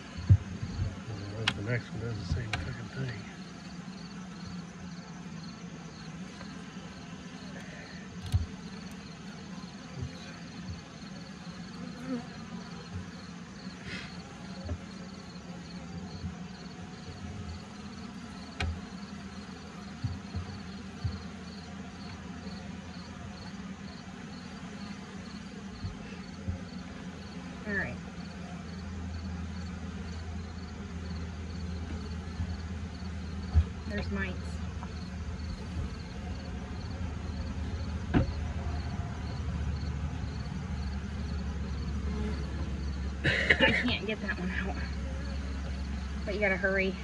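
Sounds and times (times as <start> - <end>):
soft knocks of hive frames: 0.0 - 46.6
bees buzzing: 0.0 - 47.0
high insect chirp: 0.0 - 47.0
honeybees humming: 0.0 - 47.0.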